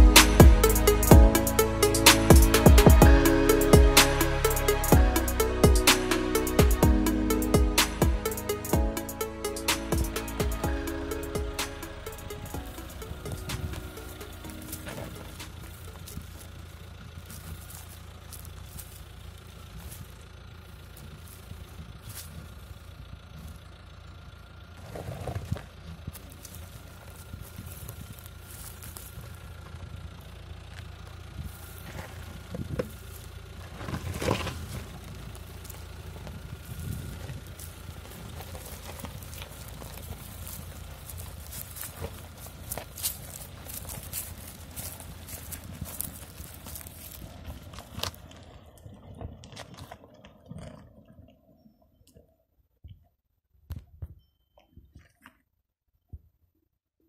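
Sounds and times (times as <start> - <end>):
car engine idling: 0.0 - 51.8
gravel crunching under tyres: 0.0 - 52.4.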